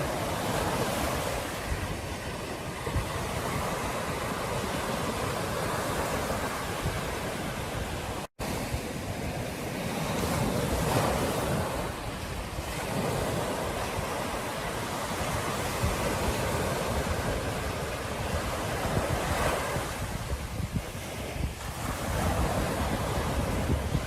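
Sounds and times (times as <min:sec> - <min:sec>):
waves breaking on beach: 0:00.0 - 0:24.0
wind buffeting microphone: 0:00.0 - 0:24.0.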